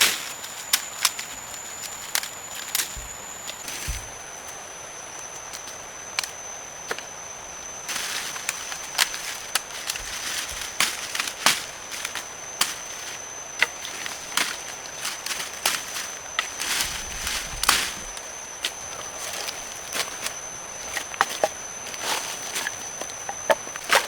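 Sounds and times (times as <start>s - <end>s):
rustle: 0.0s - 4.2s, 7.9s - 24.0s
high-pitched insect drone: 0.0s - 24.0s.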